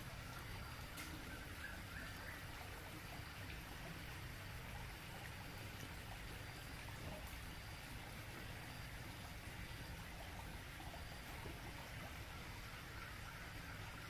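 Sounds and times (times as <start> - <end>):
small waterfall trickling into pond: 0.0 - 14.0.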